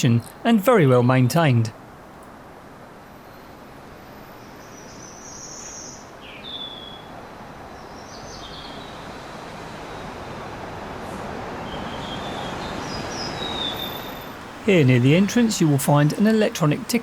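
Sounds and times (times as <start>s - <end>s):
steady outdoor noise: 0.0s - 17.0s.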